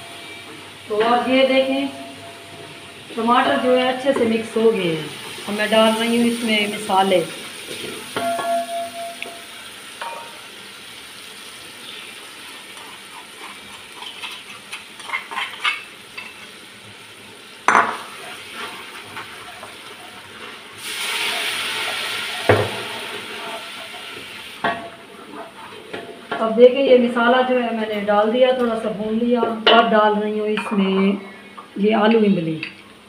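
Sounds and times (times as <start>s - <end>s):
masala sizzling in oil: 0.0s - 29.3s.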